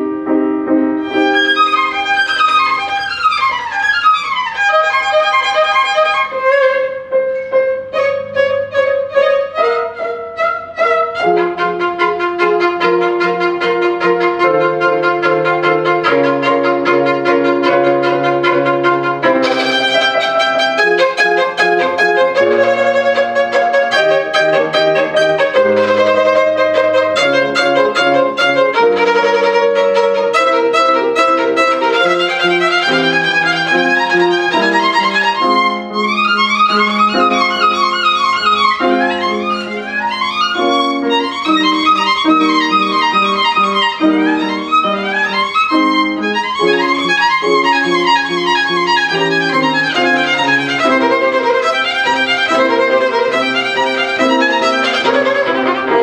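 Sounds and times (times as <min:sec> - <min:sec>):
piano accompaniment: 0:00.0 - 0:56.0
violin playing: 0:00.0 - 0:56.0.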